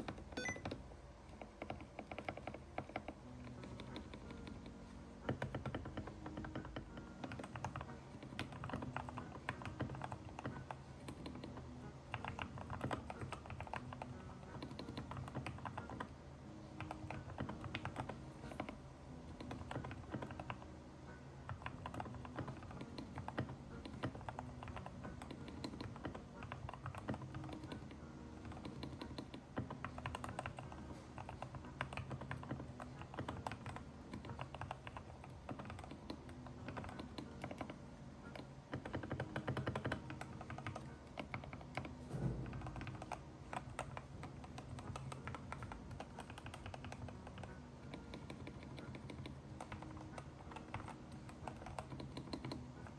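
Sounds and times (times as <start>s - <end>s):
typing on mechanical keyboard: 0.0s - 16.1s, 16.8s - 20.7s, 21.5s - 52.9s.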